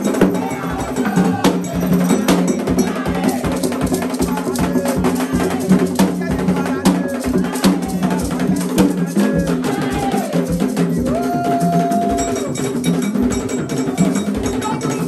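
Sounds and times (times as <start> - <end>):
person singing: 0.0 - 12.7
drums and percussion: 0.0 - 15.0.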